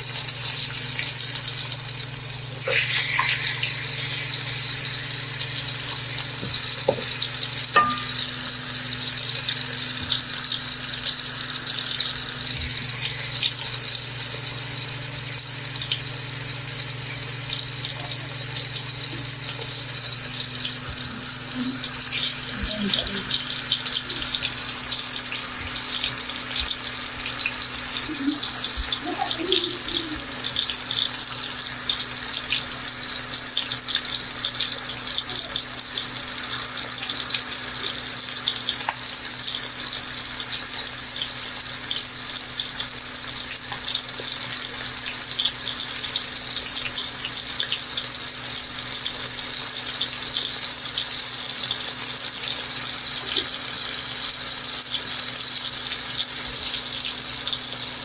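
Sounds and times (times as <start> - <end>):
oil crackling: 0.0 - 49.9
chicken sizzling in hot oil: 0.0 - 58.0.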